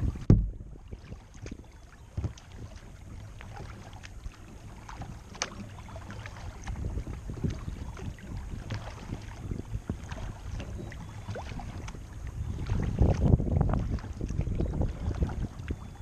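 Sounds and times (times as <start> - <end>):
paddle splashes and ticks: 0.0 - 16.0
wind rumble on microphone: 0.0 - 16.0.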